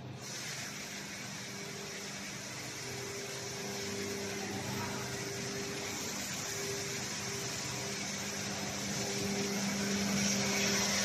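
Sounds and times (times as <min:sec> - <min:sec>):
machinery hum: 0:00.0 - 0:11.0
low drone: 0:01.9 - 0:11.0.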